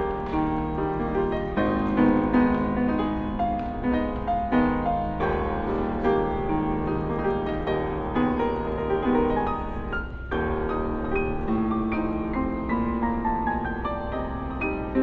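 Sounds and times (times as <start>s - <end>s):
grand piano playing: 0.0s - 15.0s.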